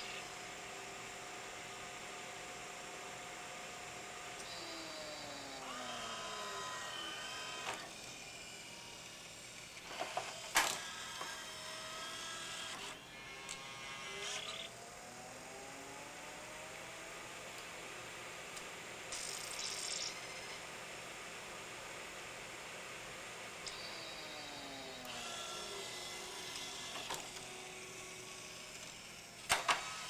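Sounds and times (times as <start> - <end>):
small motors whirring: 0.0 - 17.6, 19.1 - 20.7, 23.6 - 30.0
disc spindle whine: 0.0 - 30.0.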